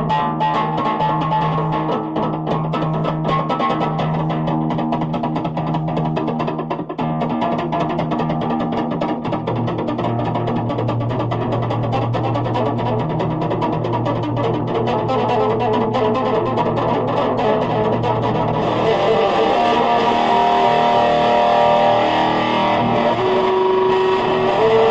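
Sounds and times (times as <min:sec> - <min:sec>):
guitar and bass music: 0:00.0 - 0:24.9.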